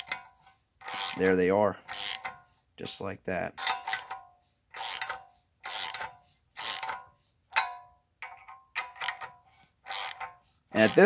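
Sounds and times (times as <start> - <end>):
ratchet wrench clicking: 0.0 - 2.5, 3.6 - 11.0.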